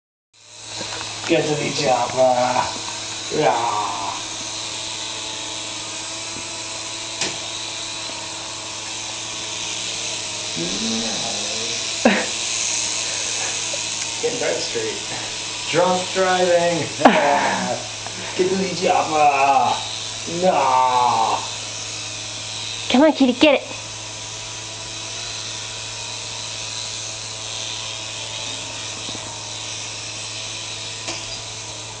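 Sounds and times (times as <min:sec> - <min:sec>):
toy helicopter motor whine: 0:00.4 - 0:32.0.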